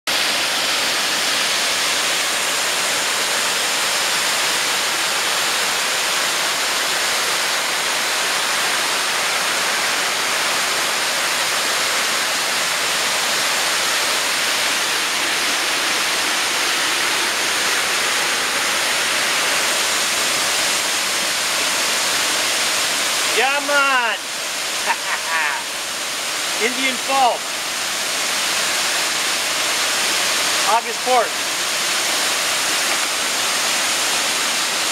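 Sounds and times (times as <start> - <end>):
waterfall splashing onto rocks: 0.1 - 34.9.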